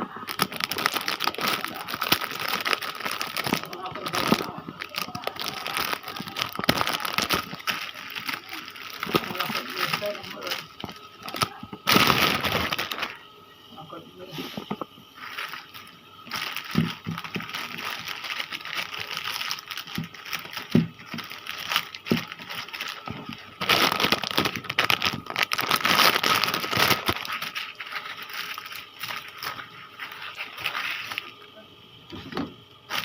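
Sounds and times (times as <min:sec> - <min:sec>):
plastic packaging crinkling: 0:00.0 - 0:13.3, 0:14.7 - 0:31.5.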